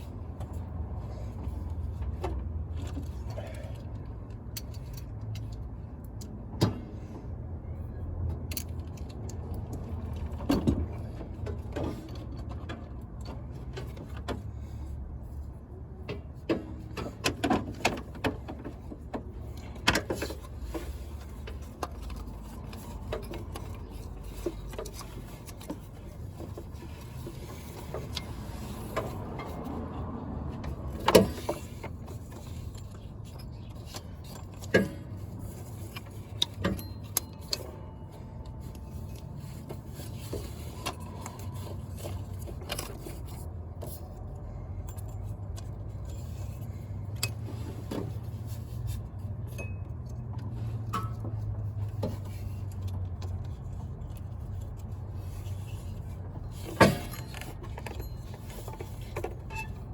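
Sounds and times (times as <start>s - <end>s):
metallic clicks and clanks of tools: 1.3s - 6.9s, 8.2s - 14.5s, 16.0s - 59.9s.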